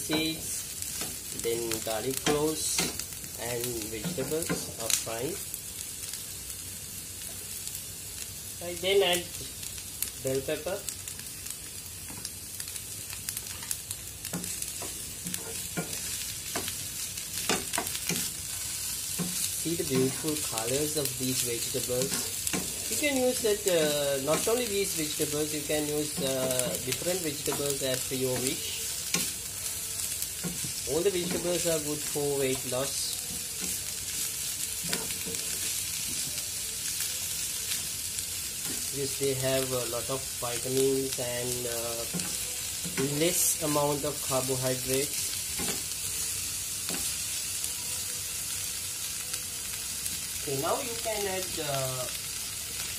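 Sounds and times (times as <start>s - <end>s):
vegetables sizzling in a pan: 0.0s - 52.9s.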